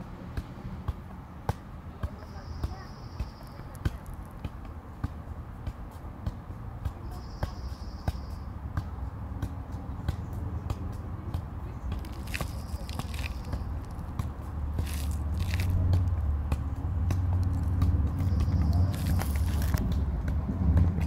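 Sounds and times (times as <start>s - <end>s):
ball being kicked: 0.9s - 21.0s.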